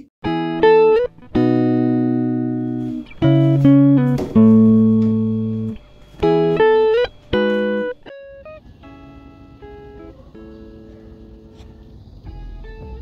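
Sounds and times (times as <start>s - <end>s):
plucked guitar slow chords: 0.2s - 13.0s.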